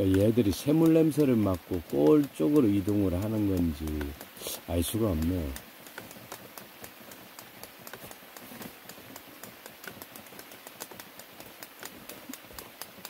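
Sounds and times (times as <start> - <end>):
rain hissing: 0.0 - 13.0
raindrops tapping: 0.0 - 13.0.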